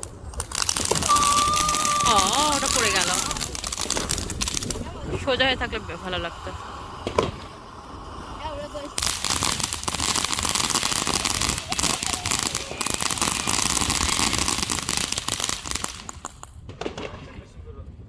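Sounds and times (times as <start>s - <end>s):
firework hissing and crackling: 0.0s - 17.2s.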